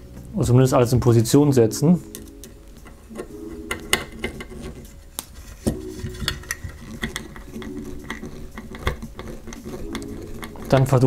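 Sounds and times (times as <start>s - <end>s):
small parts clicking and tapping: 2.1s - 11.0s.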